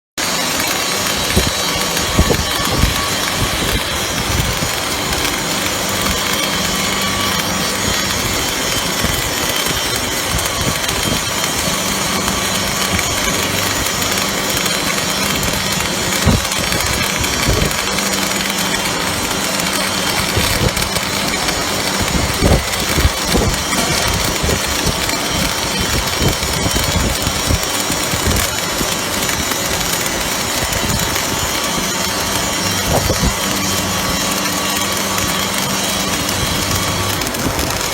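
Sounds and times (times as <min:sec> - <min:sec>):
welding arc crackling hiss: 0:00.2 - 0:37.9.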